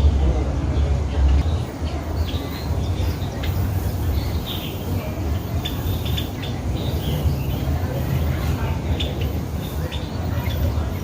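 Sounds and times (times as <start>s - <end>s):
birds chirping and calling: 0.8s - 11.0s.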